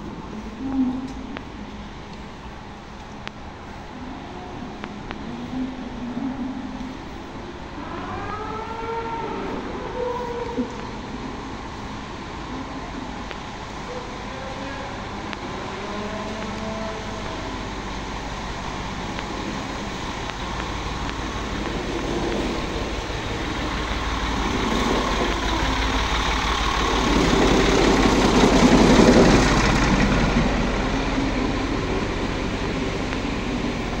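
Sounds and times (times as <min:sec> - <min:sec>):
mechanical rumble and hiss: 0:00.0 - 0:34.0.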